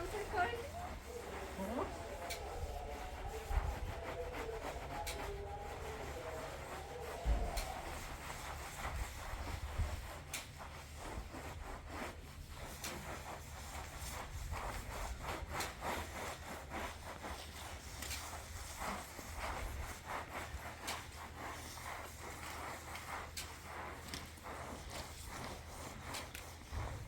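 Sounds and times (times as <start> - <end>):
rubbing or scraping strokes: 0.0 - 27.0.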